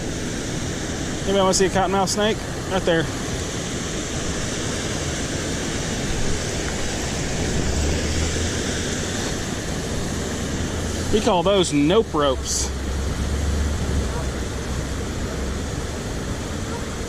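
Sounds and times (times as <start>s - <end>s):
water rushing over spillway: 0.0s - 17.0s.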